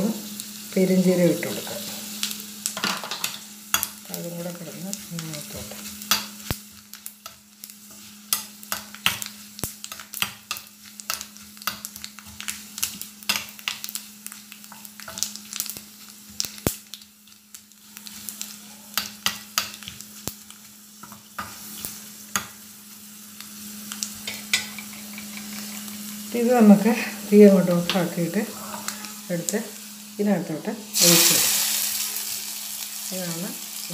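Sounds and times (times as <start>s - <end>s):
spices sizzling and popping in oil: 0.0s - 33.9s.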